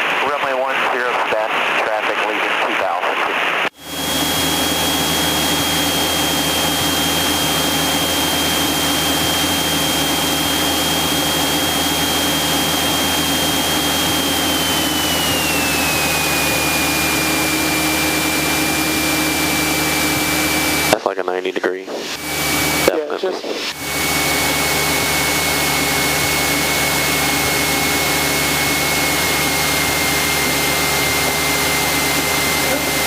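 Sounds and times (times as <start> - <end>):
thin high whine: 3.6 - 33.0
aircraft engine and propeller: 3.8 - 33.0.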